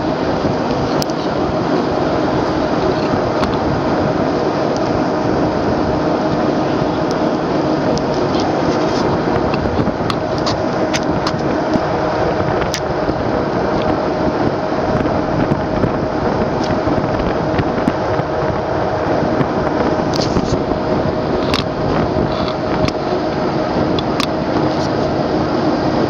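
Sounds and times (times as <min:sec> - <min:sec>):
boat engine humming: 0:00.0 - 0:26.0
water rushing: 0:00.0 - 0:26.0
wind rushing: 0:00.0 - 0:26.0.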